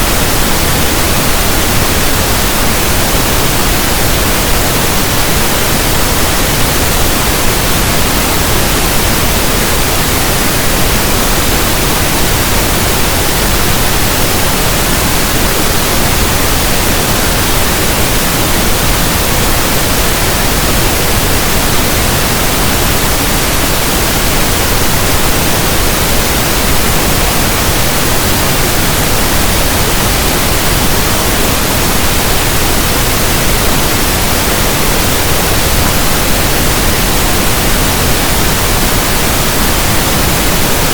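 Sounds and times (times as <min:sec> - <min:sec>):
steady static hiss: 0:00.0 - 0:40.9.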